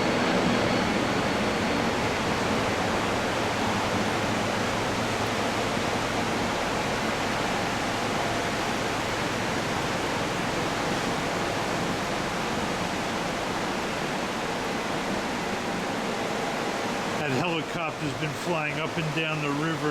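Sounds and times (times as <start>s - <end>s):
river water rushing: 0.0s - 19.9s.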